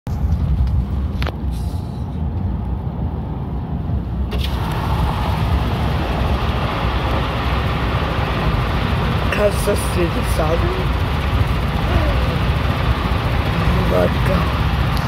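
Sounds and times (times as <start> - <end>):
car road and engine rumble: 0.1 - 15.0
rushing noise: 0.1 - 15.0.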